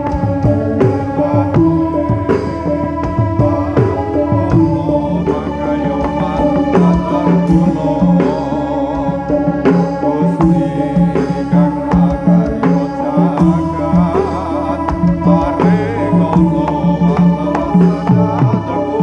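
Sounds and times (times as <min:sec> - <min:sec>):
hand drum pattern: 0:00.0 - 0:19.0
wavering melodic line: 0:00.0 - 0:19.0.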